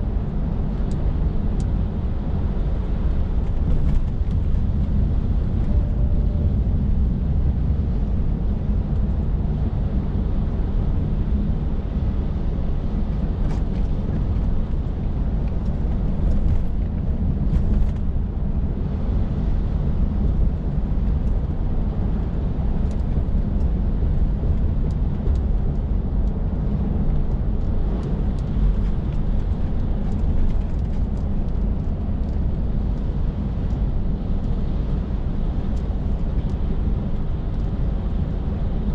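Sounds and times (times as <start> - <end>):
lorry diesel engine rumbling: 0.0 - 38.9
road noise: 0.0 - 38.9.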